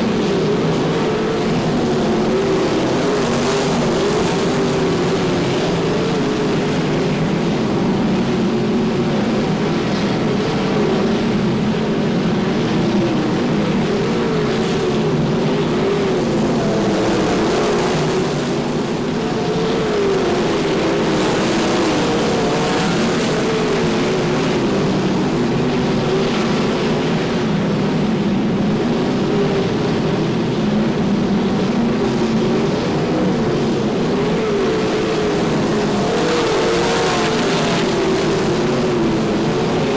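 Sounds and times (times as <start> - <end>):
race car engines roaring: 0.0 - 39.9.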